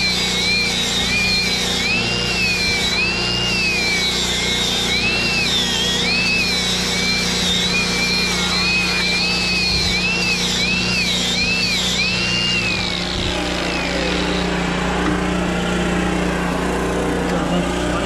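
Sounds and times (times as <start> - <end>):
engine running: 0.0 - 18.0
high whine rising and falling: 0.0 - 18.0.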